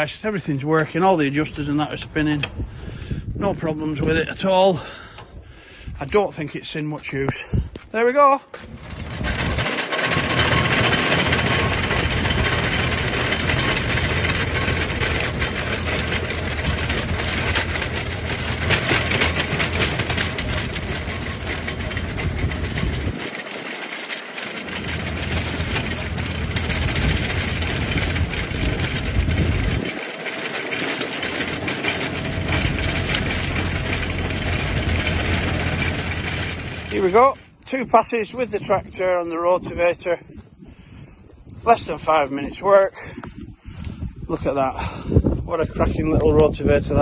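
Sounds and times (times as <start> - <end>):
rotavator tines rattling through soil: 0.0 - 5.4, 8.2 - 40.4, 41.5 - 47.0
tractor diesel engine drone: 0.0 - 7.4, 8.6 - 47.0.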